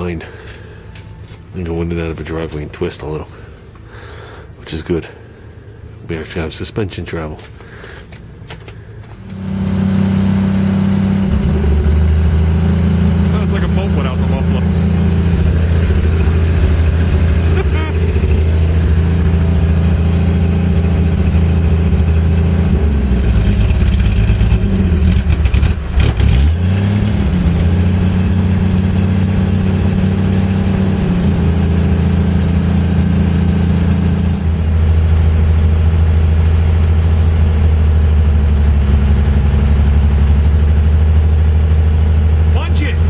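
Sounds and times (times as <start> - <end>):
car engine without muffler: 0.0 - 43.0.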